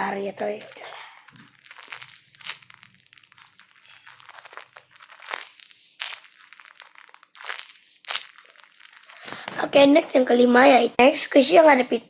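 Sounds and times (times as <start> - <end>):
toys crinkling and rustling: 0.0 - 10.8.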